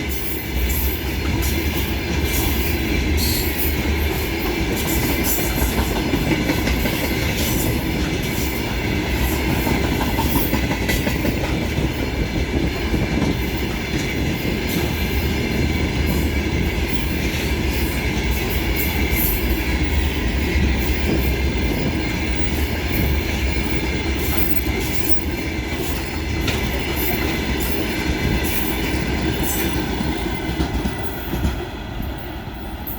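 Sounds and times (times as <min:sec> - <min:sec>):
wheels clicking over rail joints: 0:00.0 - 0:32.2
freight train wagons rumbling past: 0:00.0 - 0:32.9.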